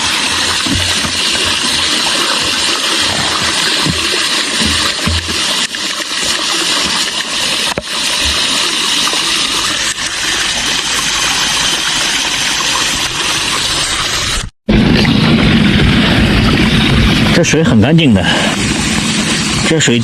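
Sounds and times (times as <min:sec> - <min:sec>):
water gushing from pipe: 0:00.0 - 0:20.0.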